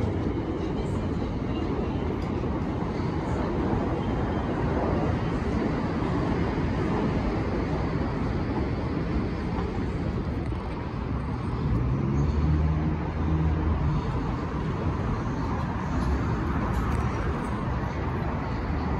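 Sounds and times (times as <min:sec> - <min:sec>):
city street traffic: 0:00.0 - 0:18.9.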